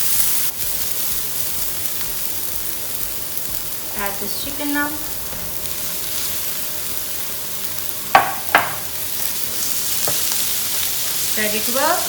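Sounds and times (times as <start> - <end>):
chicken sizzling on griddle: 0.0 - 12.0.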